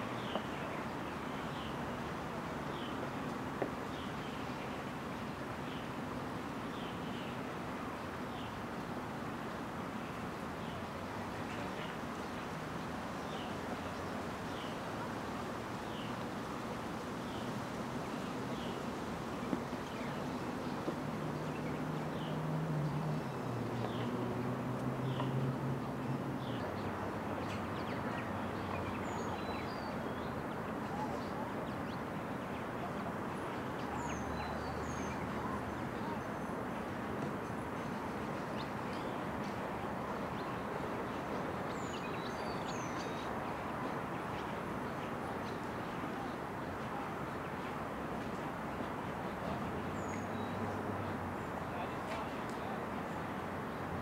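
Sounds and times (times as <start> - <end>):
background noise wash: 0.0 - 54.0.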